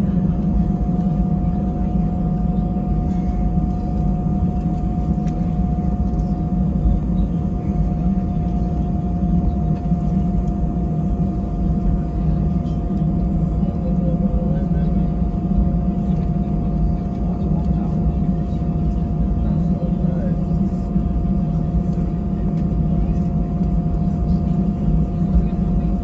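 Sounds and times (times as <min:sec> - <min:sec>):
jet engine whine: 0:00.0 - 0:26.0
jet engines rumbling in cabin: 0:00.0 - 0:26.0.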